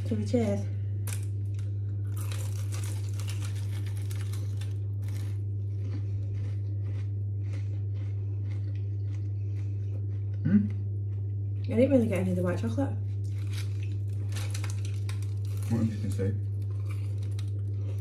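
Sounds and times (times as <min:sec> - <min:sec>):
low hum: 0:00.0 - 0:18.0
crunchy food chewing: 0:01.0 - 0:12.3, 0:13.0 - 0:18.0.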